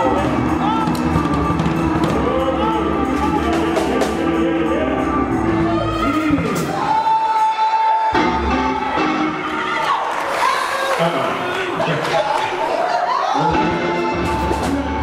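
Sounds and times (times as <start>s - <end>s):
gospel church music with singing: 0.0s - 15.0s.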